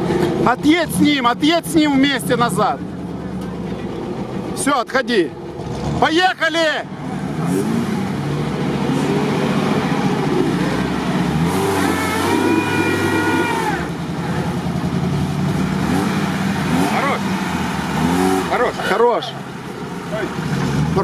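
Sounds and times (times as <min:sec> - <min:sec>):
off-road engine revving: 0:00.0 - 0:21.0.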